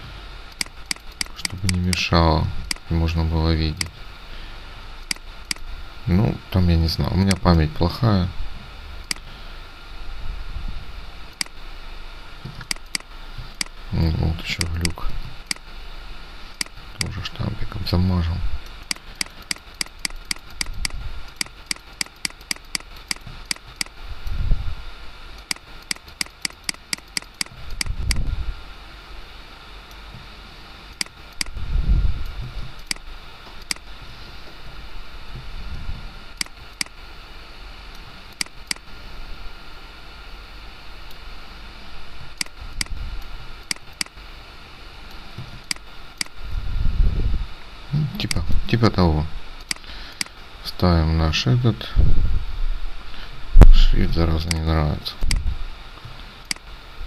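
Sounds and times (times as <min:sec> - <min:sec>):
computer fan hiss: 0:00.0 - 0:57.0.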